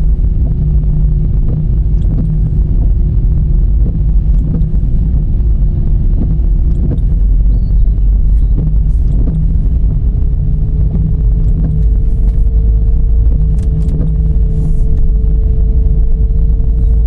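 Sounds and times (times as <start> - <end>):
engine and road rumble: 0.0 - 17.0
steady hum: 0.0 - 17.0.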